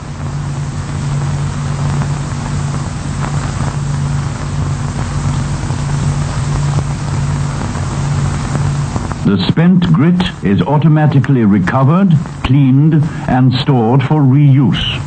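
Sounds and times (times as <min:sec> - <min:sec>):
low machine hum: 0:00.0 - 0:15.0
grit blasting hiss: 0:00.1 - 0:14.0.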